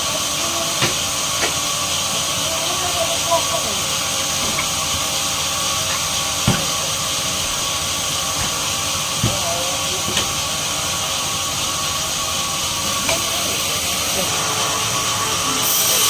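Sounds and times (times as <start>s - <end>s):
sawmill machinery hissing: 0.0s - 16.0s.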